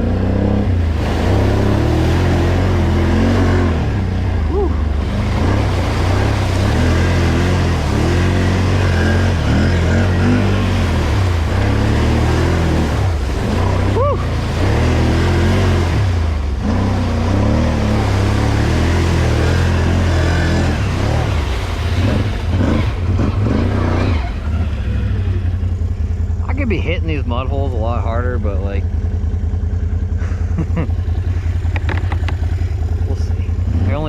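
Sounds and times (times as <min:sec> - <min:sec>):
atv engine droning: 0:00.0 - 0:34.0
tyres churning in mud: 0:00.0 - 0:34.0.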